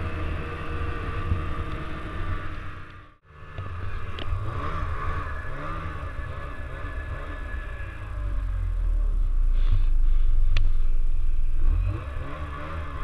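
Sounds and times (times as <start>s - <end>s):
snowmobile engine revving: 0.0s - 10.7s, 11.3s - 13.0s.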